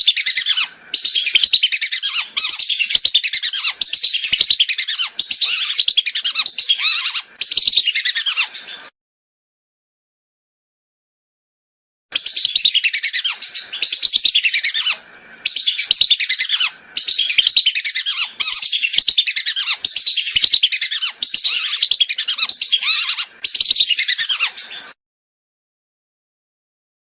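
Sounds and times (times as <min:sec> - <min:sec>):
whistling ducks calling: 0:00.0 - 0:08.9, 0:12.1 - 0:25.0.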